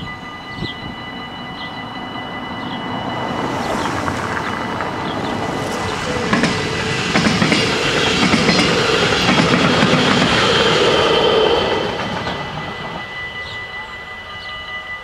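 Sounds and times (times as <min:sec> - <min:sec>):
crossing warning bells ringing: 0:00.0 - 0:15.0
electric train passing: 0:00.0 - 0:15.0.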